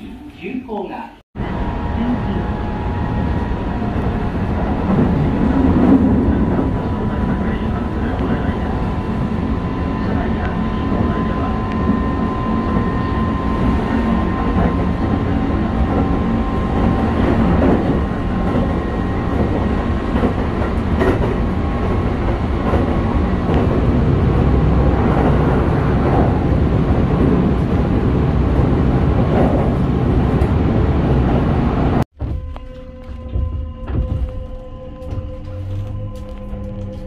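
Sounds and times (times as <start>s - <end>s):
wheels rumbling on rail: 1.4s - 37.0s.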